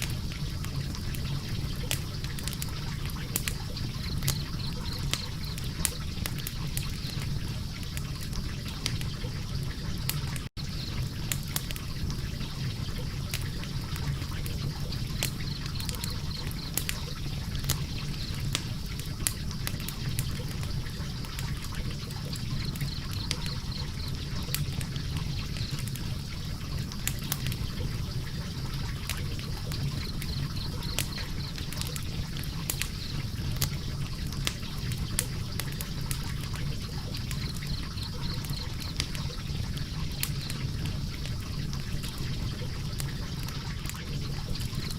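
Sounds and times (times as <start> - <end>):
logs crackling and popping: 0.0 - 44.9
low rumble of flame: 0.0 - 44.9.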